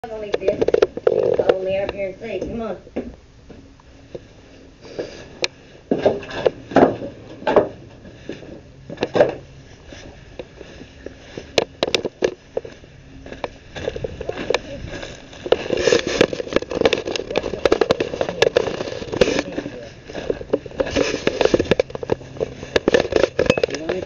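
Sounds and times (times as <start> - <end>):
footsteps crunching on plastic: 3.5 - 24.0.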